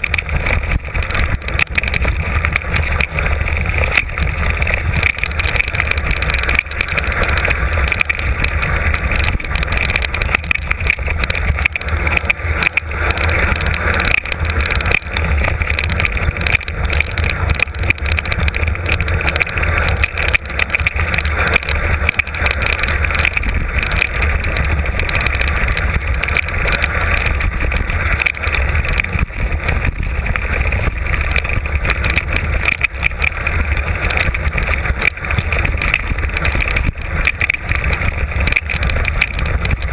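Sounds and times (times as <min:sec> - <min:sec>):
bike rattling over rough ground: 0:00.0 - 0:39.9
wind noise on microphone: 0:00.0 - 0:39.9.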